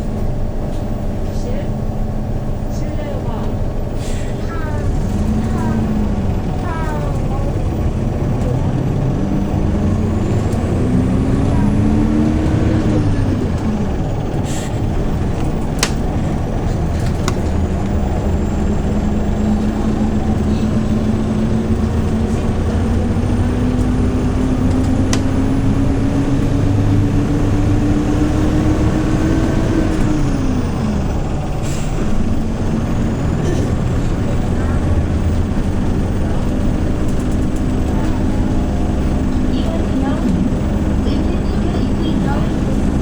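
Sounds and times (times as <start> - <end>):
bus engine pulling under load: 0.0 - 43.0
sharp clicks and rattles: 4.5 - 28.2, 29.8 - 43.0.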